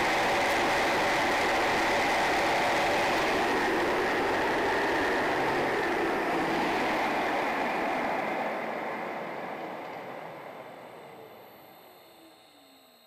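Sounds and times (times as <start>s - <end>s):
electric blower fan whining: 0.0s - 12.6s.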